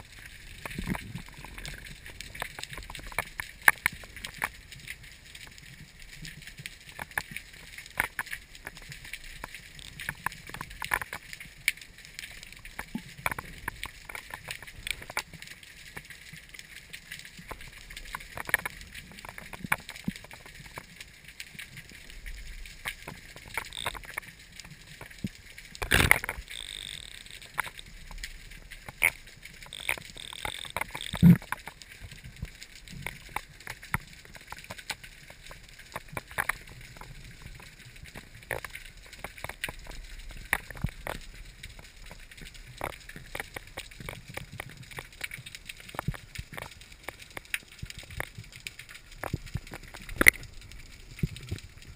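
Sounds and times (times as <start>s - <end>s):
sharp clicks and crackles: 0.0s - 51.9s.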